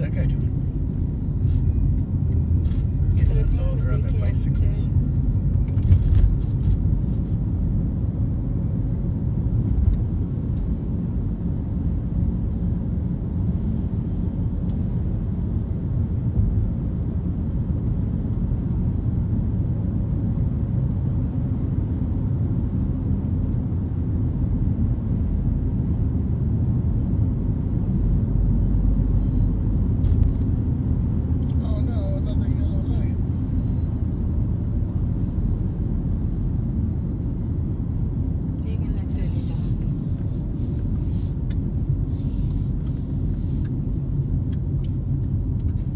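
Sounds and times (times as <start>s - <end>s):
moving vehicle rumble: 0.0s - 45.9s.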